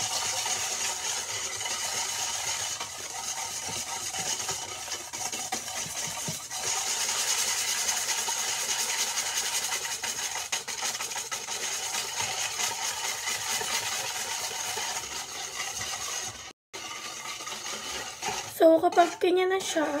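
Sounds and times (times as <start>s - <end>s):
whisk scraping metal bowl: 0.0s - 20.0s.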